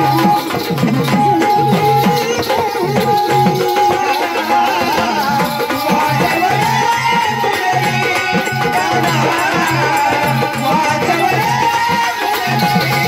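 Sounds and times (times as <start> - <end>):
drum steady beat: 0.0 - 13.0
wavering melody line: 0.0 - 13.0.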